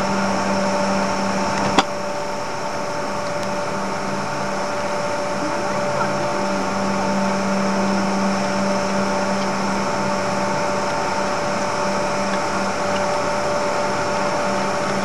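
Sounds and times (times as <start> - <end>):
constant pitched whine: 0.0 - 15.0
machine drone: 0.0 - 15.0.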